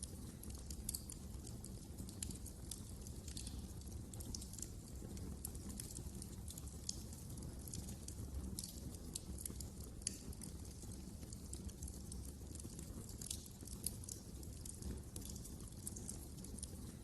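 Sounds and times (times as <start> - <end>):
fireplace fire crackling: 0.0 - 17.0
low rumble of flames: 0.0 - 17.0.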